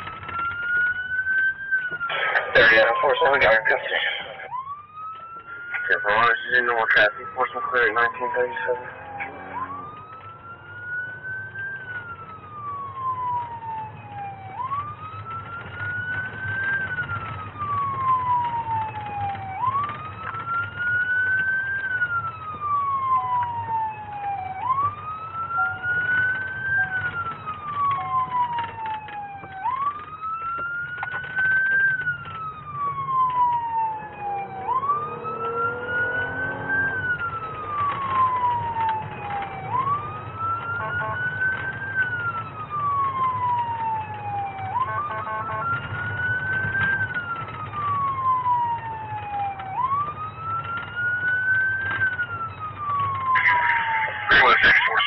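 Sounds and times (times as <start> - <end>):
engine and road noise rumble: 0.0 - 55.0
police siren wailing: 0.0 - 55.0.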